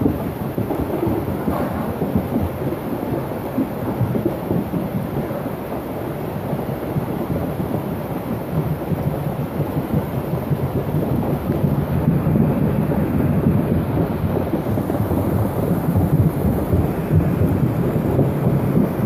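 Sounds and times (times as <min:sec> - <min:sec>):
thunderstorm with rain: 0:00.0 - 0:19.0.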